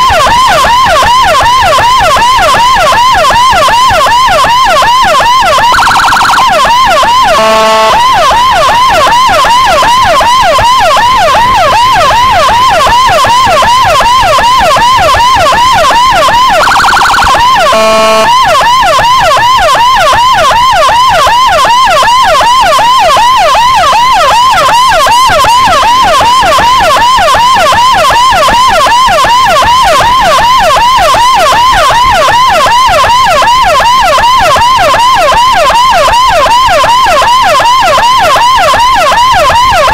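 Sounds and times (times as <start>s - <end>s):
electronic siren fast yelp: 0.0s - 39.9s
horn-like siren blast: 0.0s - 39.9s
siren wavering tone: 0.0s - 39.9s.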